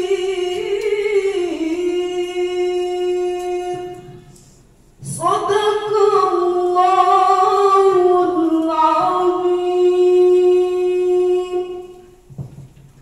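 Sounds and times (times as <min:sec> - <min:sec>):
woman chanting melodically: 0:00.0 - 0:04.4, 0:05.0 - 0:12.2.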